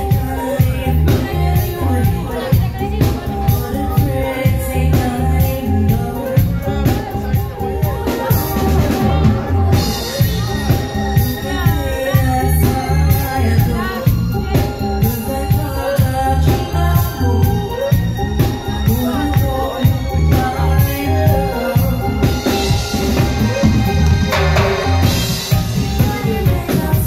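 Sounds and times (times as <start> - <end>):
heavy bass and drums: 0.0 - 27.0
reggae band playing: 0.0 - 27.0
woman singing: 0.0 - 27.0.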